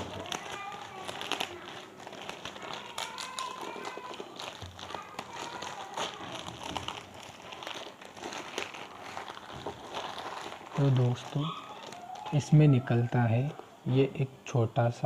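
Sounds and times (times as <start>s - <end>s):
packaging rustling and crinkling: 0.0s - 13.7s.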